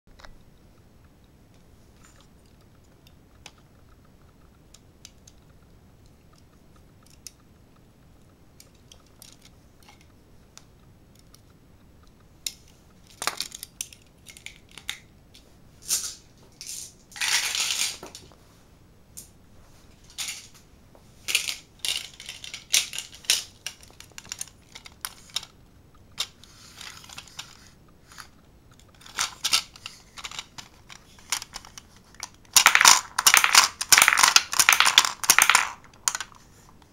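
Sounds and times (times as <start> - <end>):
plastic toy parts clicking: 2.0 - 7.6, 8.2 - 18.0, 21.3 - 36.4.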